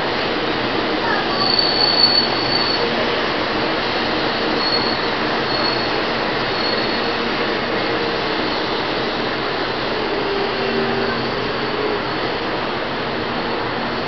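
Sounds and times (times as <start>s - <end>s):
electric train rolling slowly: 0.0s - 14.0s.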